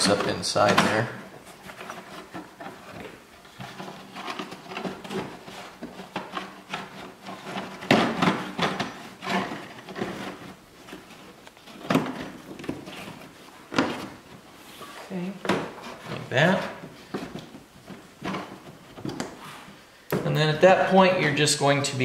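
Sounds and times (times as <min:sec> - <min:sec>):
plastic liner rubbing and clacking: 0:00.0 - 0:20.4
plastic scraping: 0:00.0 - 0:22.0.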